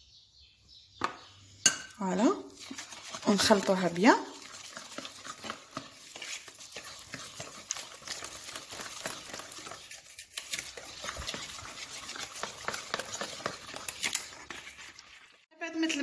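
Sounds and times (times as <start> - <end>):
hand squelching sticky dough: 2.0 - 15.5.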